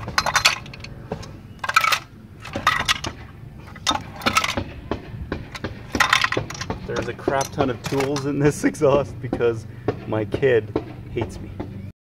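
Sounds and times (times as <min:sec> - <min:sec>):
metal tools rattling in muffler: 0:00.0 - 0:11.7.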